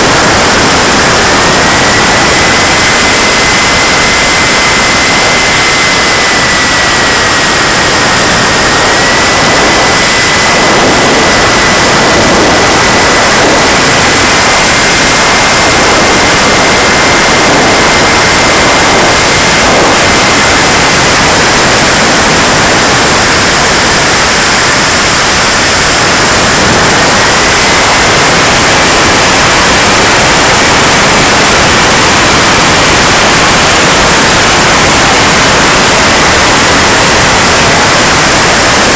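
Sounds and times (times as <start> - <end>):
model jet turbine whine: 0.0 - 38.9.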